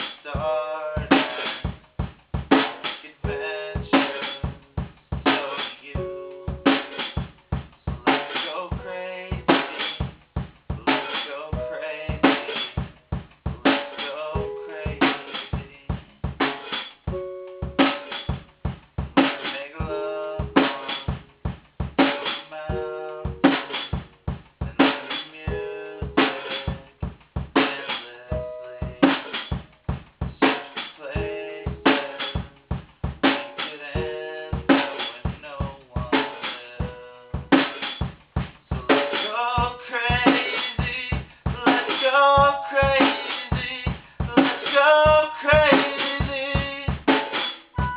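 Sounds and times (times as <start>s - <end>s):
drum kit steady beat: 0.0s - 47.9s.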